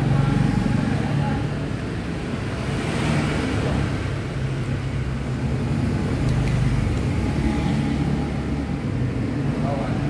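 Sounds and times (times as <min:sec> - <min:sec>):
motorbike traffic hum: 0:00.0 - 0:10.0.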